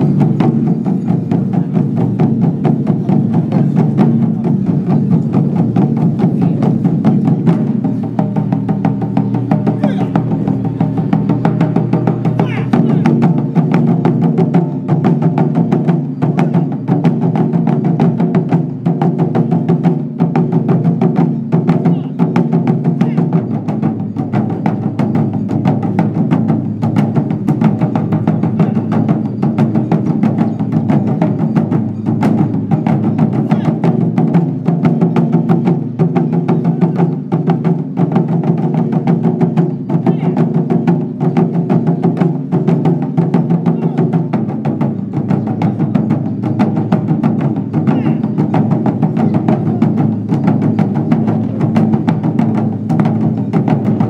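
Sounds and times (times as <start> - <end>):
deep drum strokes: 0.0 - 54.0.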